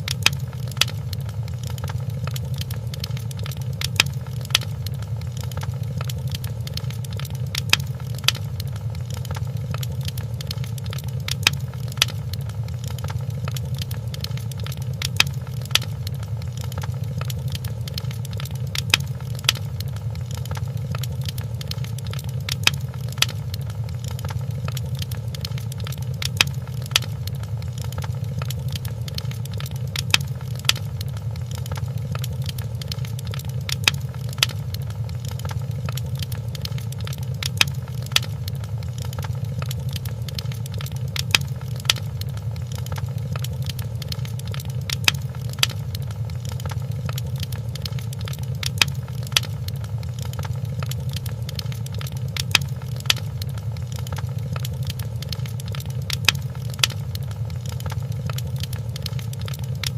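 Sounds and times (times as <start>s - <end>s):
louder fire pops: 0.0s - 59.9s
wood fire crackling: 0.0s - 59.9s.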